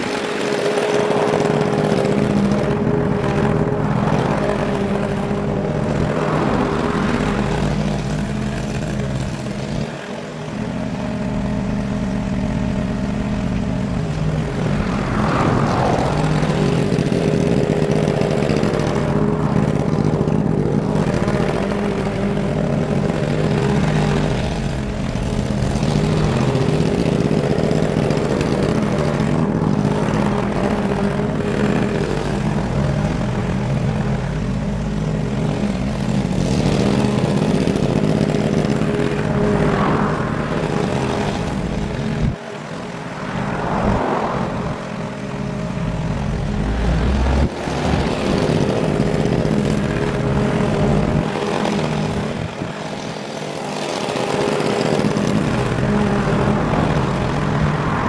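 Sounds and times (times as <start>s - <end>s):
lawn mower cutting grass: 0.0s - 58.0s.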